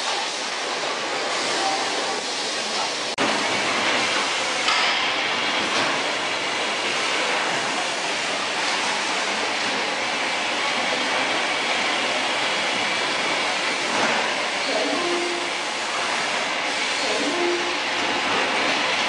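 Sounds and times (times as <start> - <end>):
conveyor machinery hum: 0.0 - 19.0.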